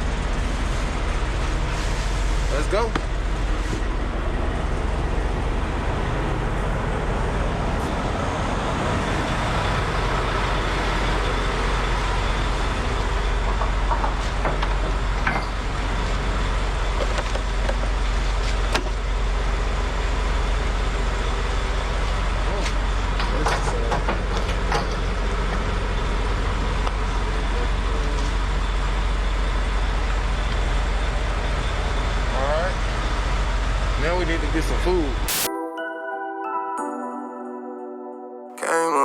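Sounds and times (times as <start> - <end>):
truck engine and road rumble: 0.0 - 35.4.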